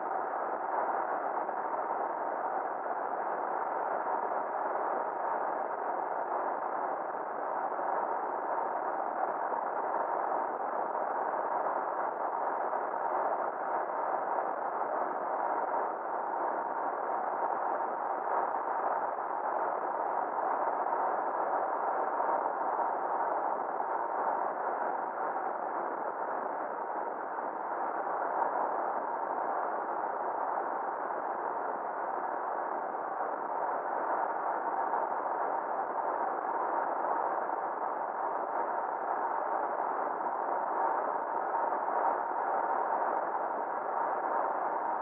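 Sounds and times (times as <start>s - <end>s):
faint constant hum: 0.0s - 45.0s.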